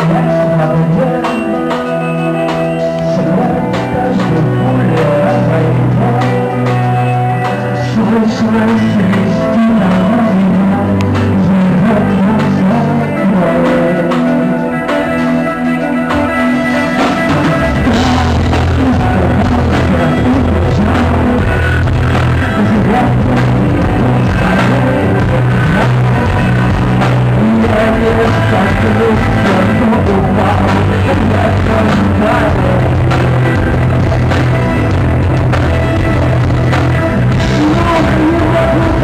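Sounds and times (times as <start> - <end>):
live rock band playing: 0.0 - 39.0
person singing: 0.0 - 39.0.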